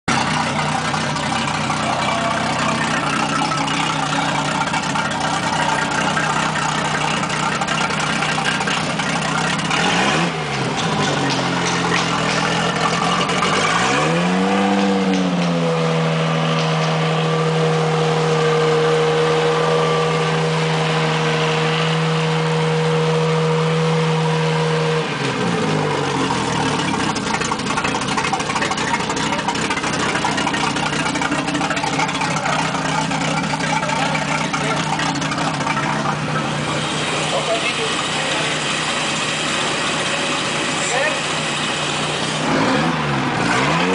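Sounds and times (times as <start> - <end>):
boat engine revving: 0.1 - 43.9.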